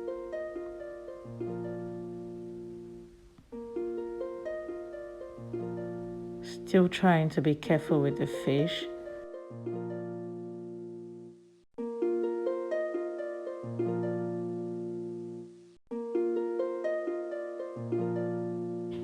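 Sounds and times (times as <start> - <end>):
plucked harp-like melody: 0.0 - 19.0.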